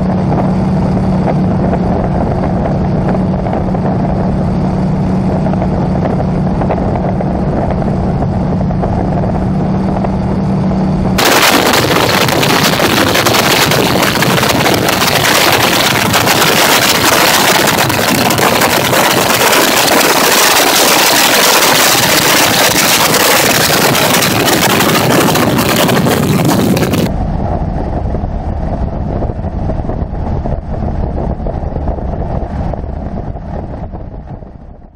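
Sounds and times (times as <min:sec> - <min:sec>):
radial aircraft engine droning: 0:00.0 - 0:34.9
rush of wind: 0:00.0 - 0:34.9.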